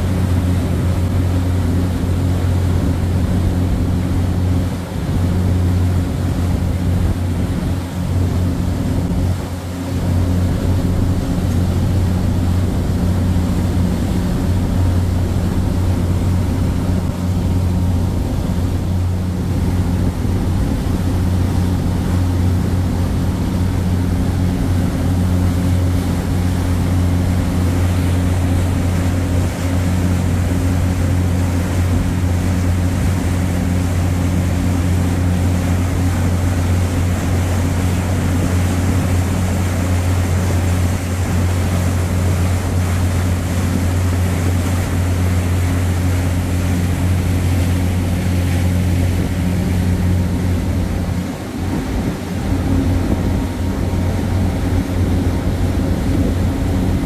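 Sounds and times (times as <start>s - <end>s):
ferry diesel engines humming: 0.0s - 57.0s
rushing propeller wake water: 0.0s - 57.0s.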